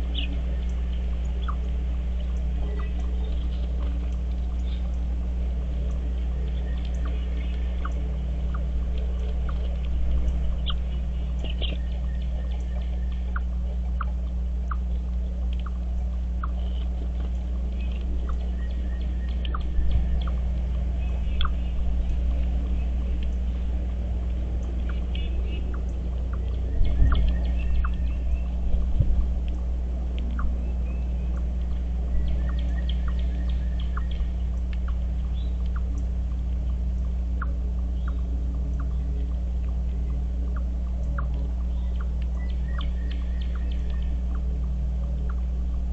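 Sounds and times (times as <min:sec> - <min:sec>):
bird calls and chirps: 0:00.0 - 0:23.9, 0:24.6 - 0:45.9
steady low hum: 0:00.0 - 0:45.9.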